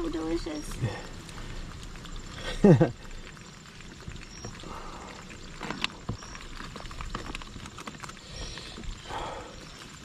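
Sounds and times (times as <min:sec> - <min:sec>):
crabs clicking and scraping: 0:00.0 - 0:10.0.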